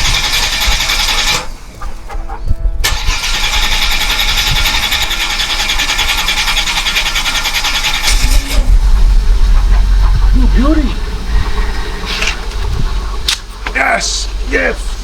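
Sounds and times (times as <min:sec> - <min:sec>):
starter motor cranking: 0:00.0 - 0:01.6, 0:02.8 - 0:13.4
car engine running rumble: 0:00.0 - 0:15.0.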